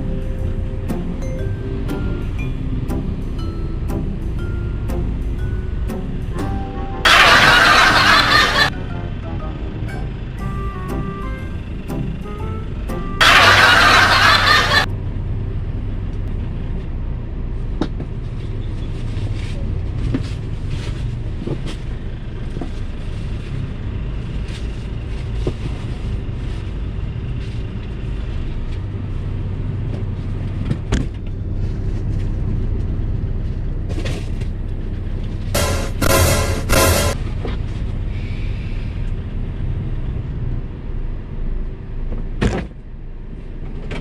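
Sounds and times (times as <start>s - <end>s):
low vehicle rumble: 0.0s - 44.0s.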